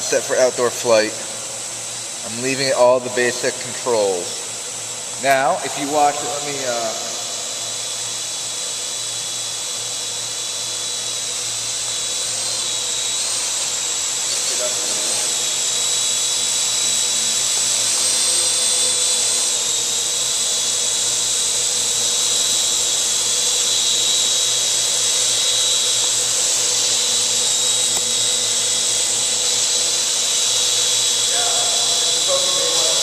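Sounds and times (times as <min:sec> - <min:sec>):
drone propellers whining: 0:00.0 - 0:33.0.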